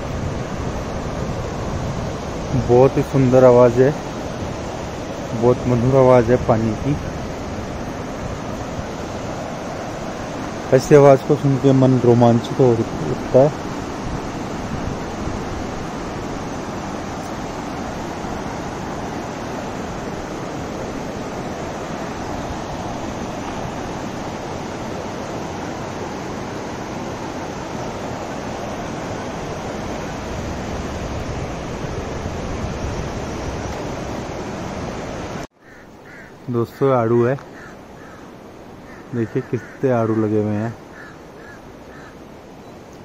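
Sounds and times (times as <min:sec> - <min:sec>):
river rushing over rocks: 0:00.0 - 0:43.0.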